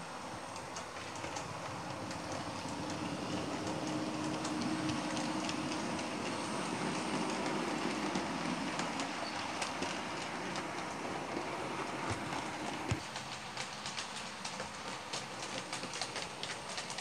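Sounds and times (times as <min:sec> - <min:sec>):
model train motor hum: 0:00.0 - 0:15.0
wheels clicking over rail joints: 0:00.0 - 0:17.0.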